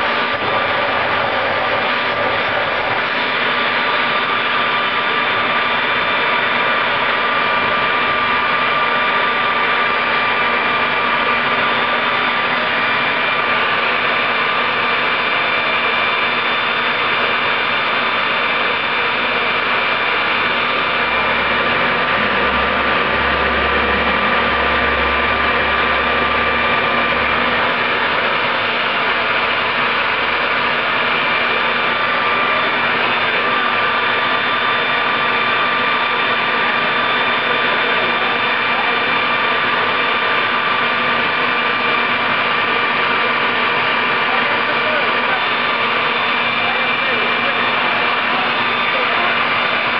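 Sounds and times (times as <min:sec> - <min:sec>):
high compressor whine: 0:00.0 - 0:49.9
jet engine air rush: 0:00.0 - 0:49.9.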